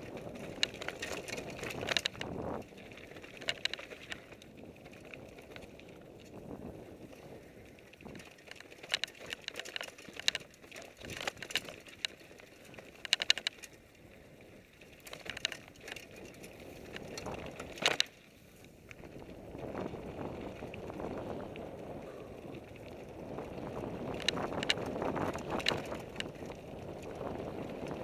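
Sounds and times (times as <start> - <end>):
bike clicking and rattling: 0.0 - 28.0
bike tyres rolling on dirt: 0.0 - 28.0.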